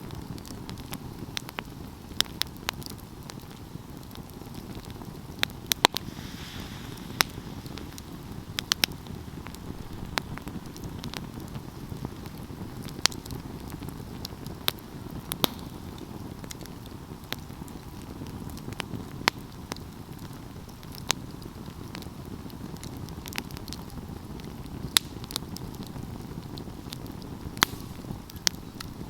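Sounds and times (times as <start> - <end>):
low rush of flames: 0.0 - 29.0
wood fire crackling and popping: 0.0 - 29.0.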